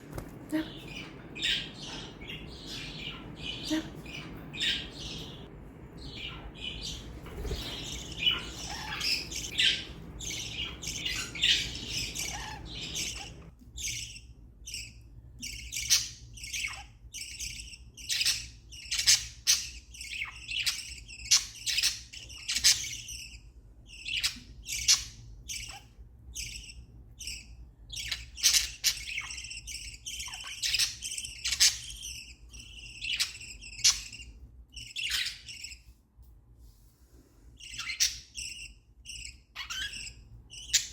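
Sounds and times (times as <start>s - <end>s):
parrots chirping and squawking: 0.3s - 35.9s, 37.6s - 40.9s.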